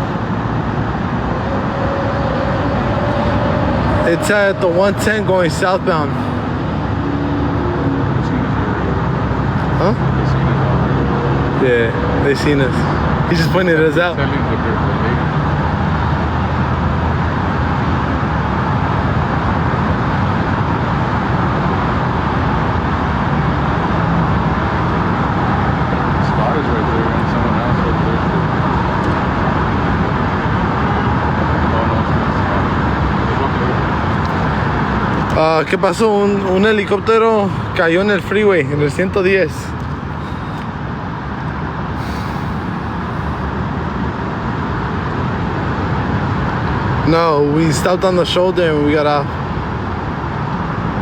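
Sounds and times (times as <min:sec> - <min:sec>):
freeway traffic roar: 0:00.0 - 0:51.0.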